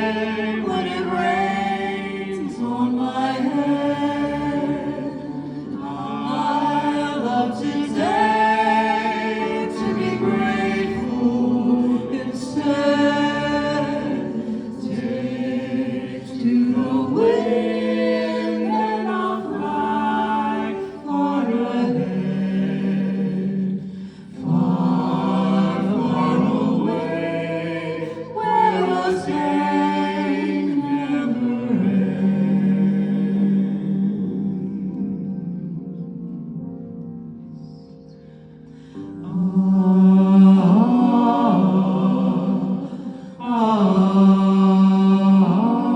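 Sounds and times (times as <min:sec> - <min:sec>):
choir singing a cappella: 0:00.0 - 0:36.5, 0:38.9 - 0:45.9.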